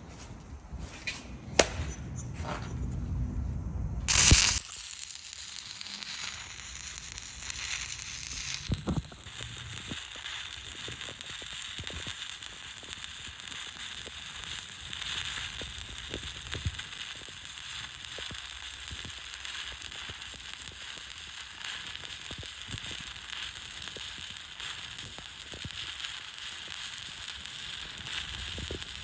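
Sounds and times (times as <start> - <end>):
welding arc crackling and hissing: 4.1 - 29.0.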